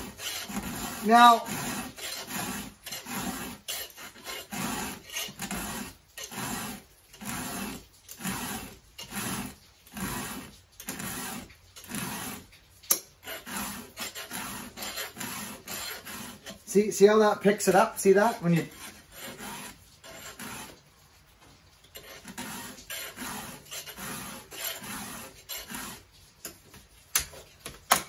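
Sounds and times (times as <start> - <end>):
file rasping on saw chain: 0.0 - 26.6.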